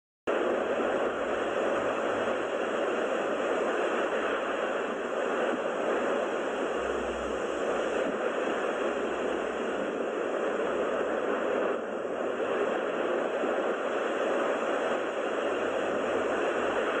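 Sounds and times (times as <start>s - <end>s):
steady rushing noise: 0.3s - 17.0s.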